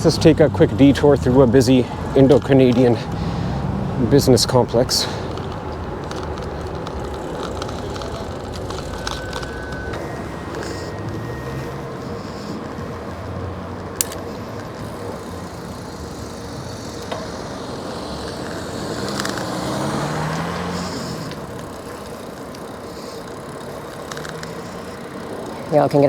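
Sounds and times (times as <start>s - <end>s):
car passing: 0.0s - 26.0s
road noise: 0.0s - 26.0s.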